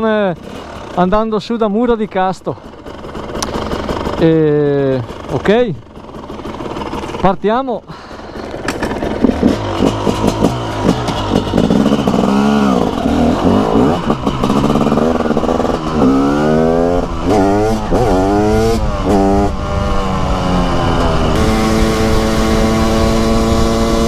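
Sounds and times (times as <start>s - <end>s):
two-stroke motorcycle accelerating: 0.0s - 24.0s.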